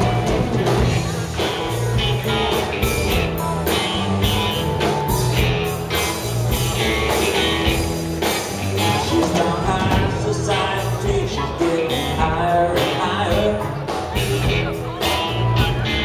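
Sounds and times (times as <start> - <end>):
drum kit: 0.0 - 16.0
electric bass: 0.0 - 16.0
electric guitars: 0.0 - 16.0.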